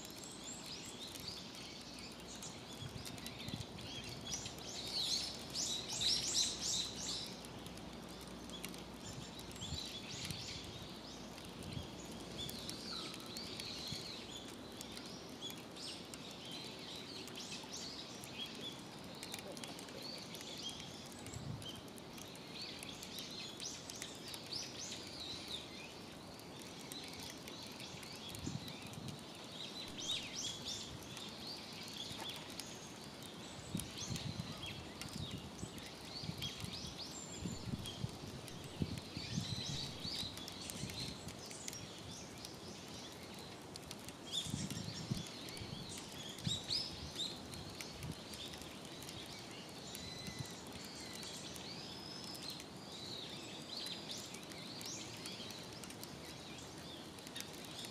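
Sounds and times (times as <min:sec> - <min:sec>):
faint outdoor hiss: 0:00.0 - 0:57.9
small birds chirping: 0:00.0 - 0:57.9.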